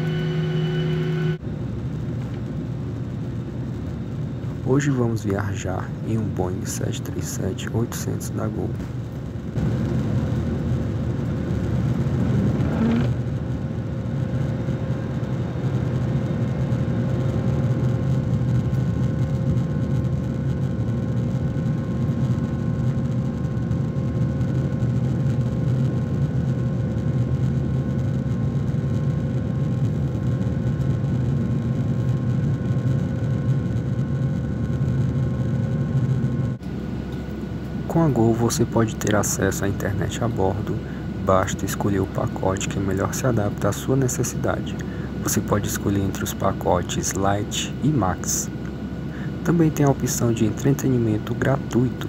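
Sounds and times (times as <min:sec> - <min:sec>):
faint steady whine: 0:00.0 - 0:52.0
jet engines rumbling: 0:00.0 - 0:52.0.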